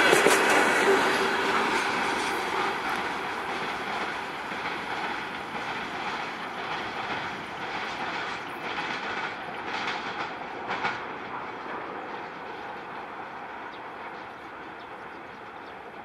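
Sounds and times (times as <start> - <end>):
train wheels rumbling over rails: 0.0 - 16.0.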